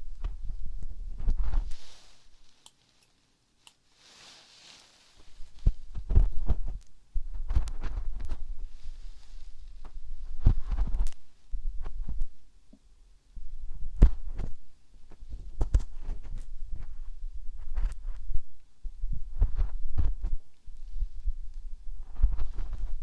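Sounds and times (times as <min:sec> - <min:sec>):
scratching and tapping on microphone: 0:00.0 - 0:02.7, 0:05.2 - 0:12.8, 0:13.5 - 0:23.0.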